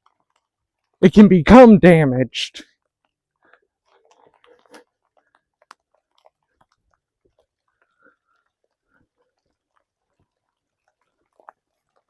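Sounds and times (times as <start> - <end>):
faint clicks and crackles: 0.0 - 1.0, 2.6 - 12.0.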